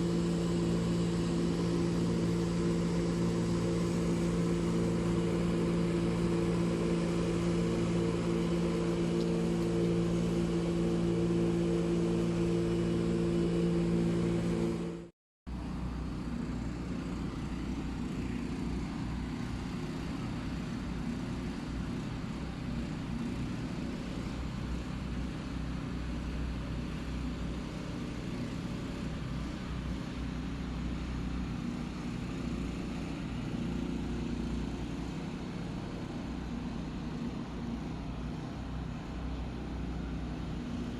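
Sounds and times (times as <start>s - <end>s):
droning engine hum: 0.0s - 40.9s
rough low engine rumble: 0.0s - 40.9s.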